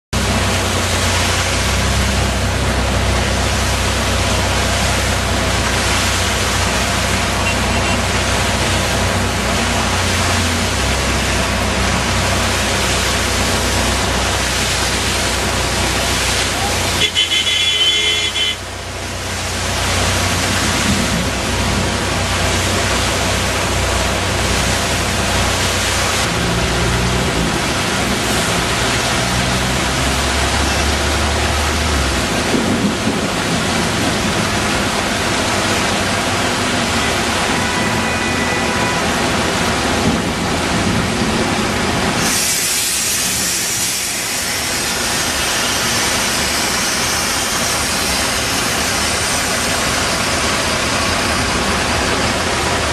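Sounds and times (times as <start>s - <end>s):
vehicle engine rumbling: 0.1s - 52.9s
heavy rain pouring: 0.2s - 52.9s.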